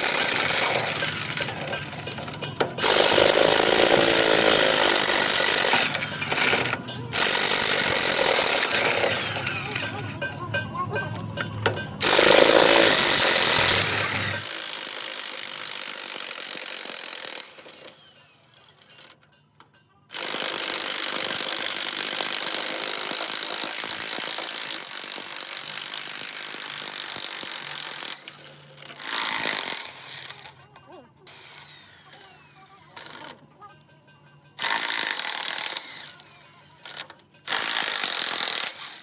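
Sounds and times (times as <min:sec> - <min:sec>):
power tool running: 0:00.0 - 0:19.3, 0:20.1 - 0:33.4, 0:34.6 - 0:39.0.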